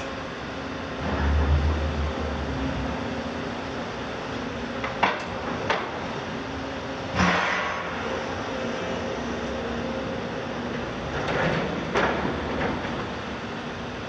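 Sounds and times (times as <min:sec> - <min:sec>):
excavator diesel hum: 0:00.0 - 0:14.0
excavator hydraulics working: 0:00.0 - 0:14.0.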